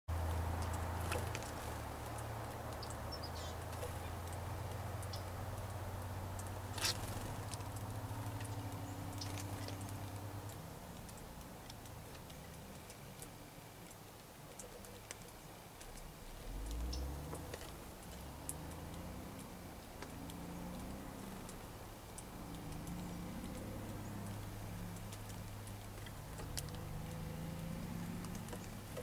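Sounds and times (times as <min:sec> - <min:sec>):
low steady rumble: 0:00.1 - 0:13.9, 0:15.8 - 0:29.0.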